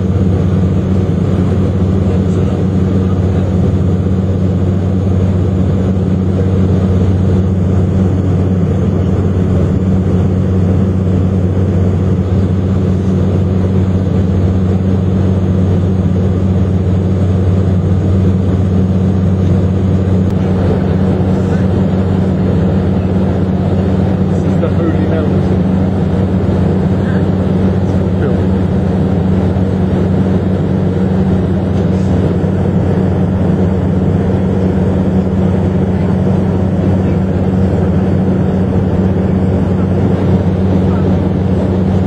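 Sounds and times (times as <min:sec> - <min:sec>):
airliner cabin engine drone: 0:00.0 - 0:42.0.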